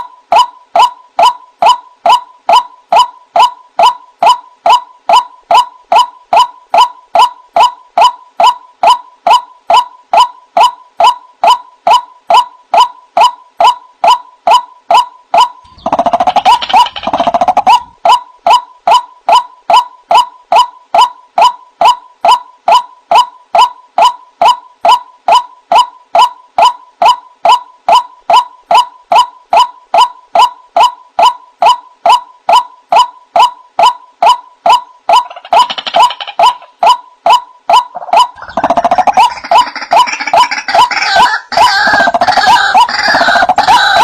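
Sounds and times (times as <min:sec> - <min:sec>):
harsh overlapping bird calls: 0:00.0 - 0:44.0
waterhen calling clipped notes: 0:00.0 - 0:44.0.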